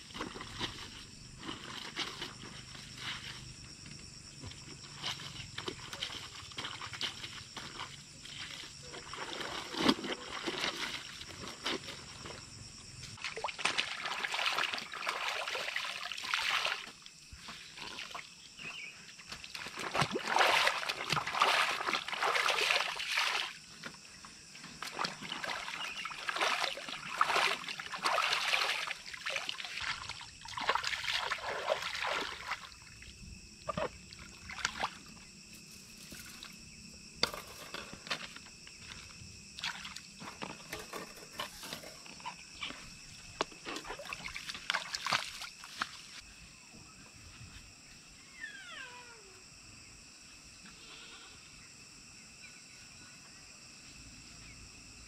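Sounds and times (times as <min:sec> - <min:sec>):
water sloshing and splashing: 0:00.0 - 0:46.3.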